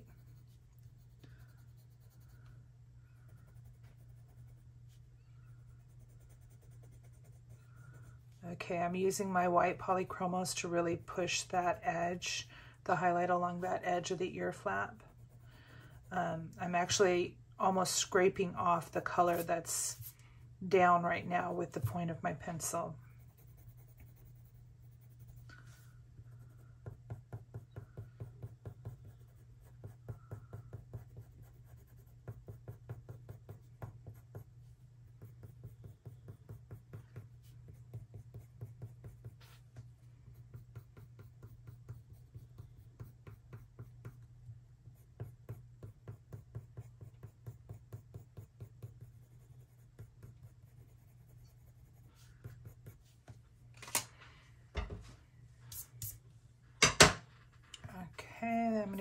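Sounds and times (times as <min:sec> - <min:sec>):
colored pencil scraping on paper: 0:00.0 - 0:02.6, 0:03.2 - 0:12.4, 0:13.0 - 0:44.2, 0:44.8 - 0:53.3
low steady hum: 0:00.0 - 0:59.0.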